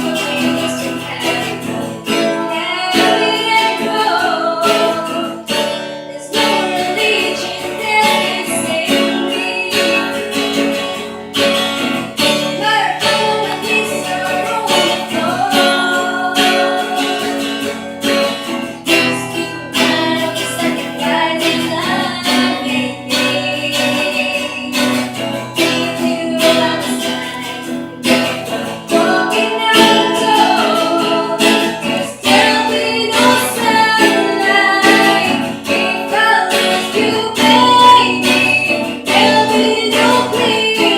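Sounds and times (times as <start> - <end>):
acoustic guitar strumming: 0.0 - 40.9
woman singing: 0.0 - 40.9.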